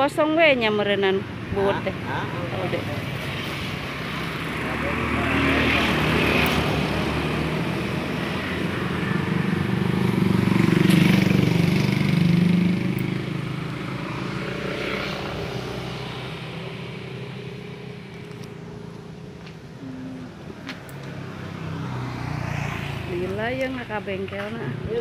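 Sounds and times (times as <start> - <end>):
motorcycle engine passing: 1.8 - 25.0.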